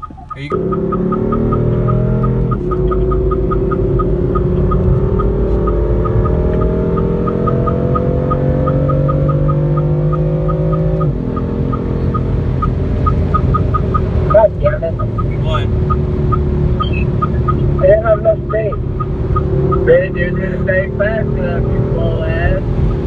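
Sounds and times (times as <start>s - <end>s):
light regular ticking: 0.0s - 20.2s
car engine accelerating: 0.0s - 23.0s.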